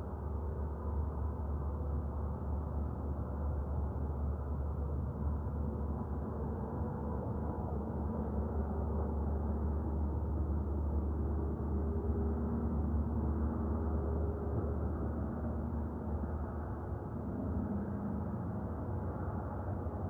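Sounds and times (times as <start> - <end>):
distant machinery roar: 0.0 - 20.0.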